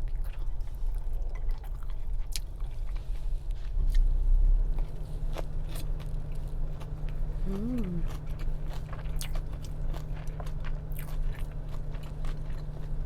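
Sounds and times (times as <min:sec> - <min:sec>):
person chewing food: 0:00.0 - 0:04.1, 0:04.7 - 0:13.0.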